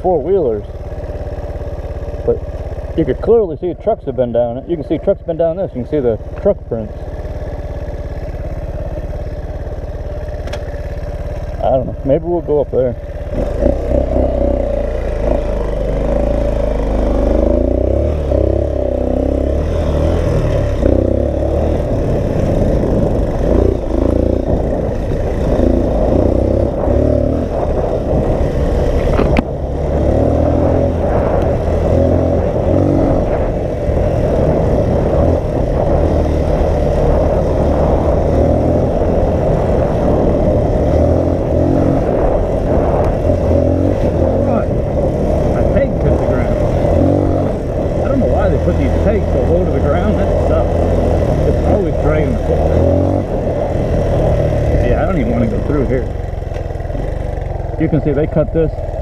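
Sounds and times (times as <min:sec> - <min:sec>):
dirt bike engine running: 0:00.0 - 0:59.0
wind rumble on microphone: 0:11.1 - 0:59.0.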